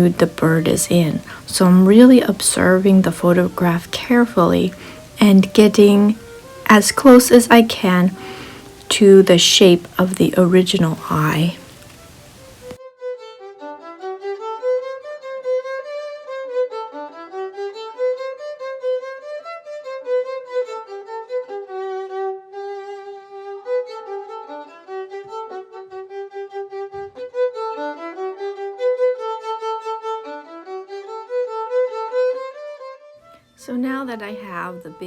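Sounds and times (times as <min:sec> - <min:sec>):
solo violin melody: 0:00.0 - 0:35.0.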